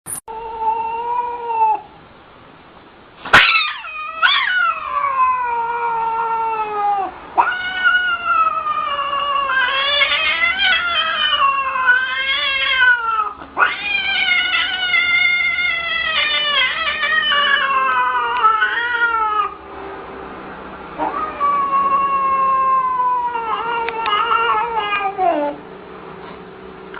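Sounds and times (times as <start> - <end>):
cat yowling: 0.2 - 1.9, 3.3 - 19.6, 21.0 - 25.6.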